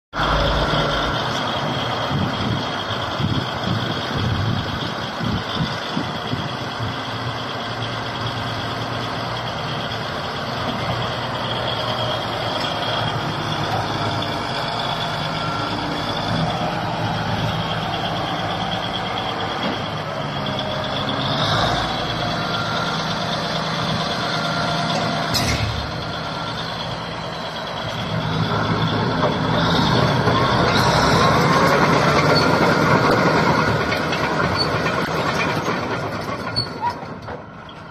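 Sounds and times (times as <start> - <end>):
bulldozer diesel engine whining: 0.2 - 37.9.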